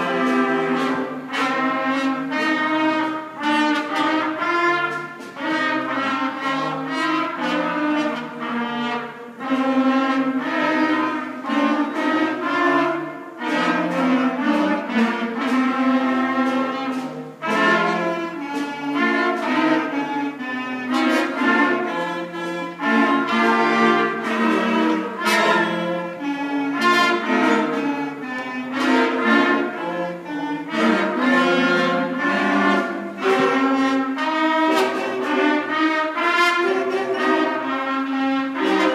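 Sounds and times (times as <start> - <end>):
school concert band playing: 0.0 - 38.9.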